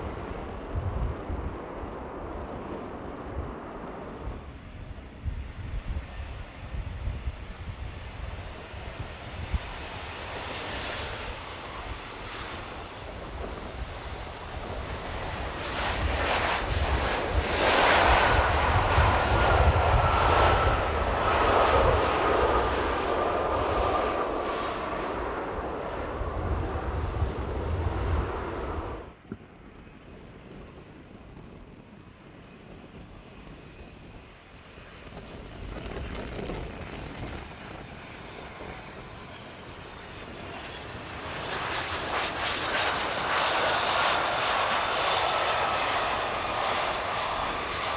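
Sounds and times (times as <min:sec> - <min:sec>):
distant jet: 0:00.0 - 0:47.9
jet airliner passing close: 0:00.0 - 0:47.9
wind rumbling on microphone: 0:00.0 - 0:47.9.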